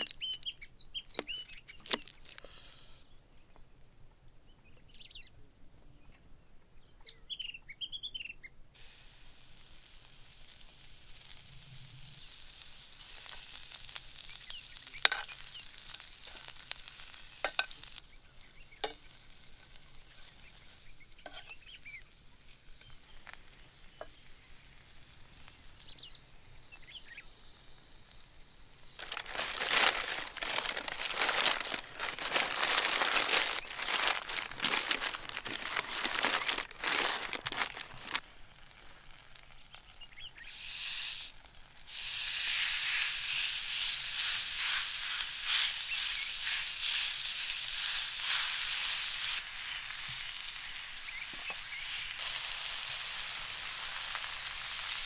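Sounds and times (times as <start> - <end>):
food sizzling in frying pan: 8.8 - 55.0.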